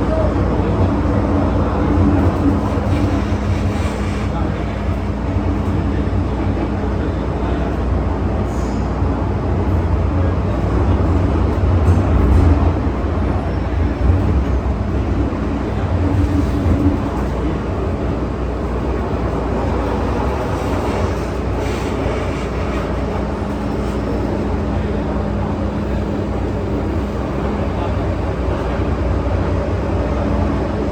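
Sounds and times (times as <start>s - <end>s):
metro wheels rumbling on rail: 0.0s - 30.9s.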